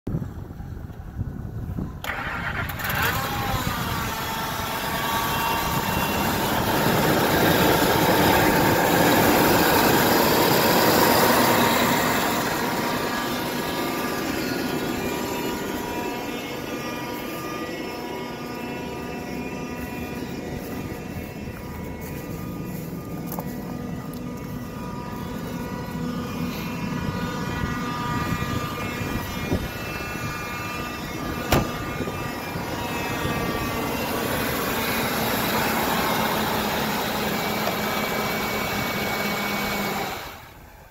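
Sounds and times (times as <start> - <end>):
truck engine idling: 0.2 - 40.9.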